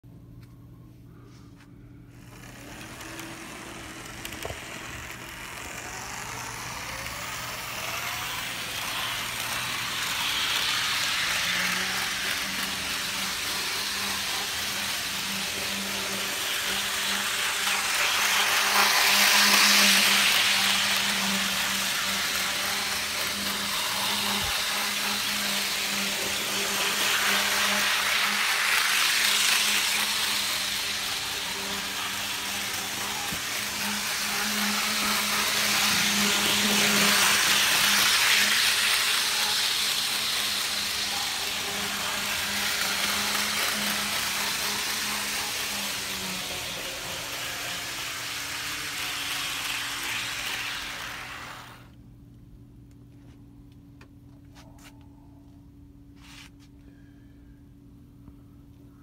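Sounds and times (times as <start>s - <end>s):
model train motor whirring: 2.0s - 52.0s
wheels rolling on rails: 2.0s - 52.0s.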